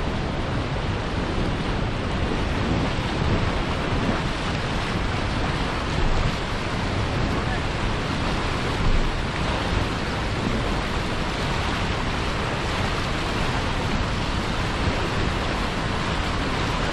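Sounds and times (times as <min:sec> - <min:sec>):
white water rushing: 0:00.0 - 0:16.9.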